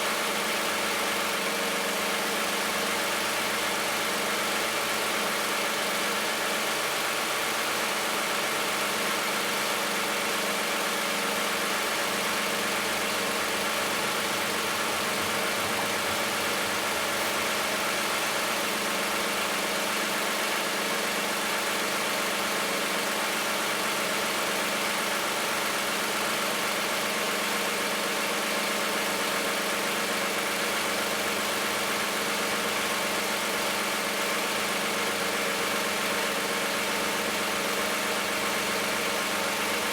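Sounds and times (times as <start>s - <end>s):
car engine idling: 0.1s - 39.9s.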